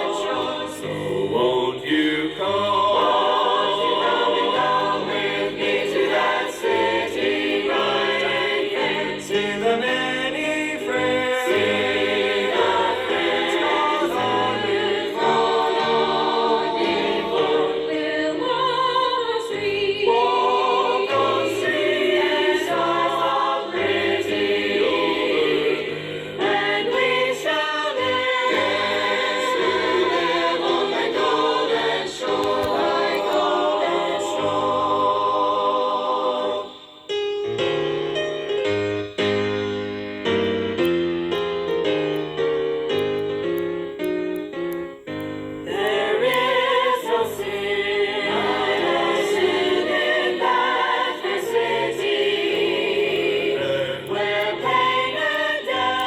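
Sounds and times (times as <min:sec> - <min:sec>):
choir singing gospel in harmony: 0:00.0 - 0:37.2, 0:45.6 - 0:56.0.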